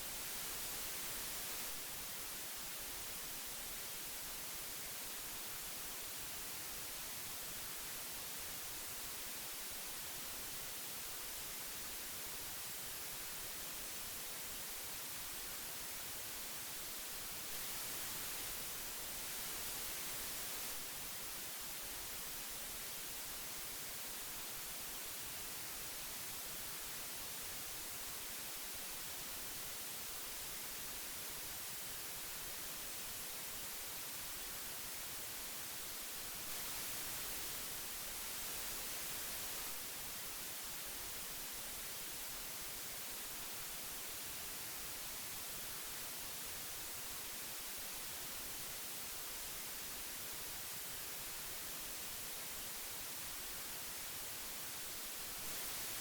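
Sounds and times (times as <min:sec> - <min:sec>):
tape hiss: 0:00.0 - 0:56.0.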